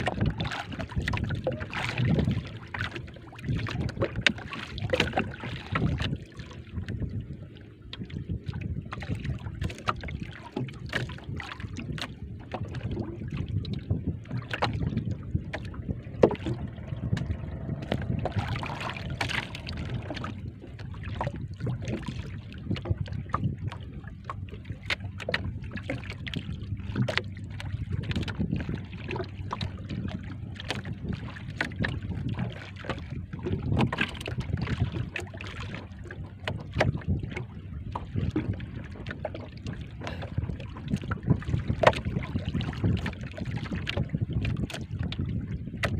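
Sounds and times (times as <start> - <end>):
water slapping against boat hull: 0.0 - 45.9
wind rumble on microphone: 0.0 - 45.9.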